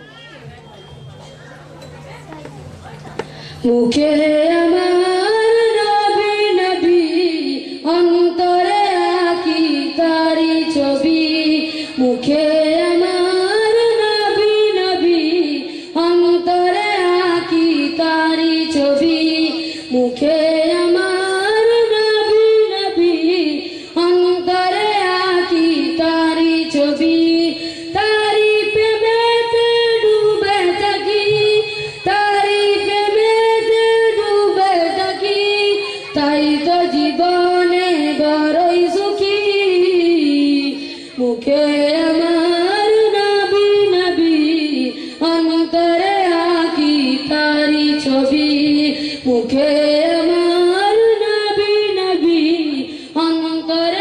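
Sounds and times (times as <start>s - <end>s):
boy singing into microphone: 3.6s - 54.0s.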